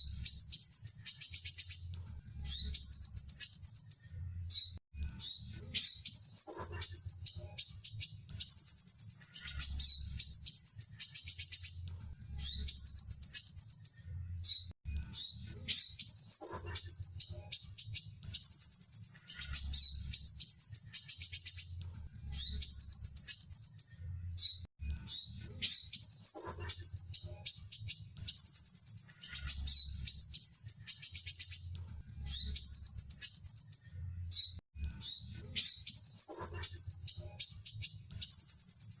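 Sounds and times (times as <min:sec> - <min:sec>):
bird trilling: 0:00.0 - 0:11.8, 0:12.4 - 0:31.7, 0:32.3 - 0:39.0.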